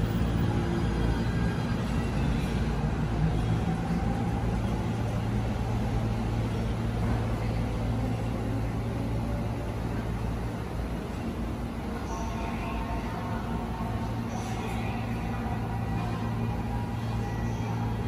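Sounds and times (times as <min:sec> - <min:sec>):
electric train humming: 0:00.0 - 0:18.0
train pulling out: 0:00.0 - 0:18.0.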